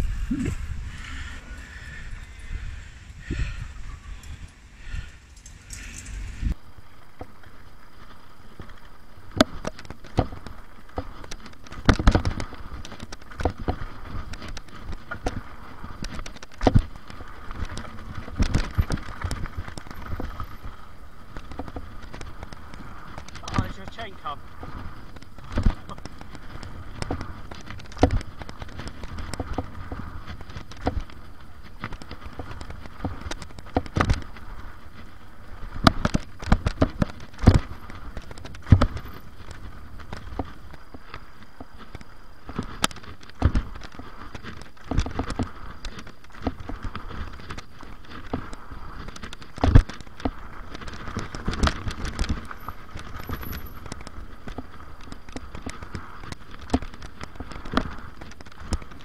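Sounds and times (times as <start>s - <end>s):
bike clattering over bumps: 0.0s - 59.0s
bike tyres on loose dirt: 0.0s - 59.0s.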